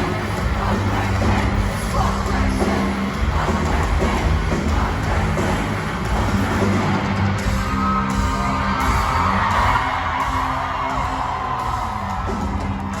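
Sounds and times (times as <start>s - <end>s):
sustained bass notes: 0.0s - 11.2s
crowd voices: 0.0s - 13.0s
live rock band playing: 0.0s - 13.0s.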